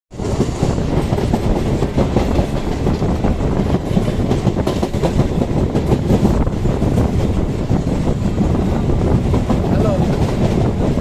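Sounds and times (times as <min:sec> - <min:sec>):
train wheels rumbling on rails: 0:00.1 - 0:11.0.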